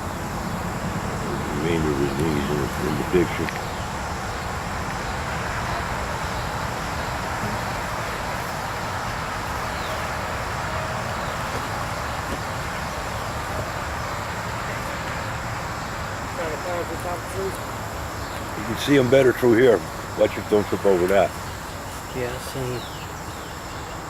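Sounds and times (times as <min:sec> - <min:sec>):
even hiss: 0:00.0 - 0:24.0.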